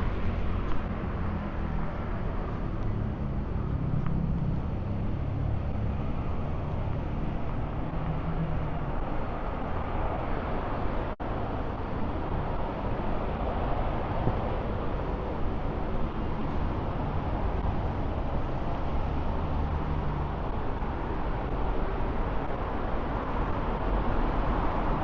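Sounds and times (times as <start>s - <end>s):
passing traffic: 0.0s - 25.0s.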